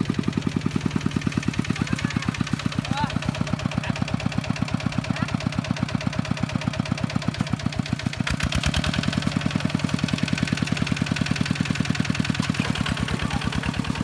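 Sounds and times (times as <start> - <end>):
diesel engine chugging: 0.0 - 14.0.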